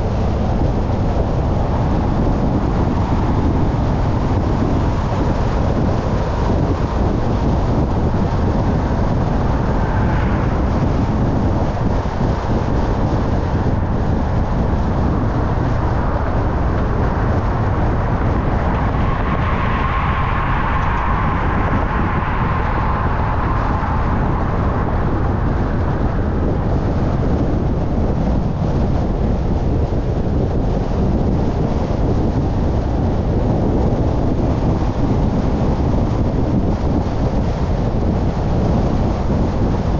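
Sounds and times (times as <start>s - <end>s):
passing car tyre rush: 0.0s - 38.5s
car road and wind noise: 0.0s - 39.9s.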